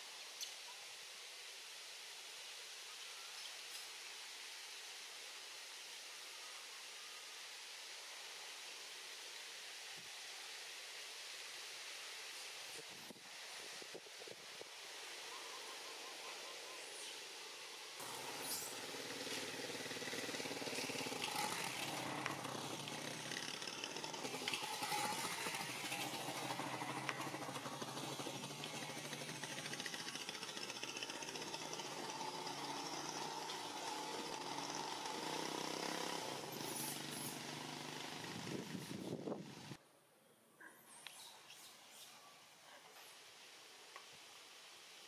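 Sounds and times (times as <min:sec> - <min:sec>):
outdoor background noise: 0:00.0 - 0:45.0.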